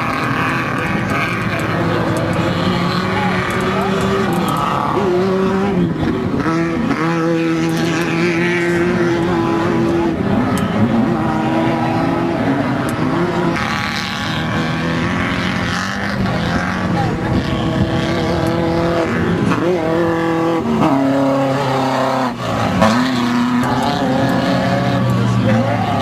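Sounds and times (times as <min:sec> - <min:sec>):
buggy engine running hard: 0:00.0 - 0:26.0.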